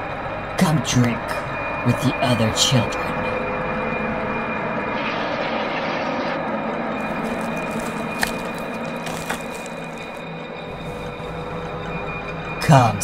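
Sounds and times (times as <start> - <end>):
rumbling ambient drone: 0.0 - 13.0.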